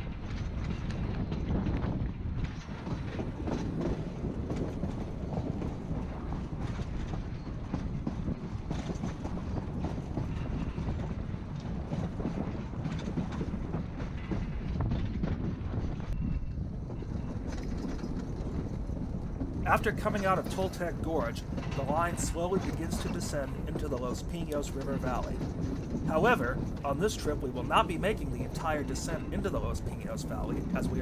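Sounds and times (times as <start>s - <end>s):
train coach rumbling: 0.0s - 31.0s
wheels clicking over rail joints: 0.2s - 31.0s.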